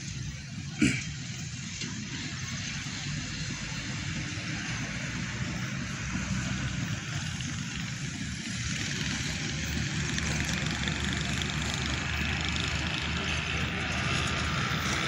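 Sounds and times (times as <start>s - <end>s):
distant diesel locomotive hum: 0.0s - 15.0s.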